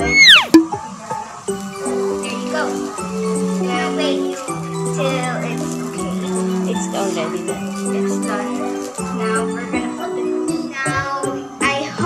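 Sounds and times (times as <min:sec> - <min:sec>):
music with held notes: 0:00.0 - 0:12.0.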